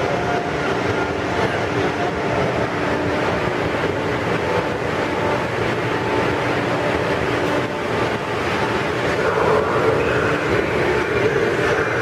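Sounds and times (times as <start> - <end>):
electric train equipment humming: 0.0 - 12.0.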